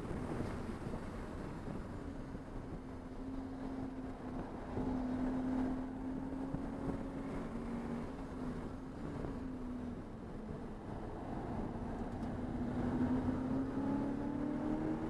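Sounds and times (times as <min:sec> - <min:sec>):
race car engine: 0:00.0 - 0:15.0
wind and road noise: 0:00.0 - 0:15.0.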